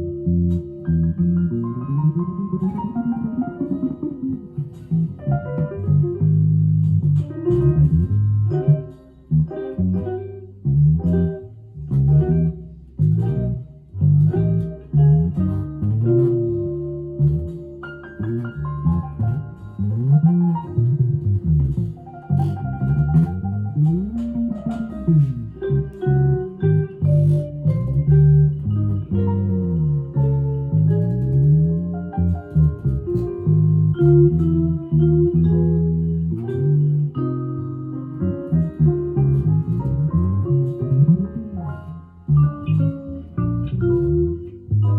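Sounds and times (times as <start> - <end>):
electric guitar plucked chords: 0.0 - 44.9.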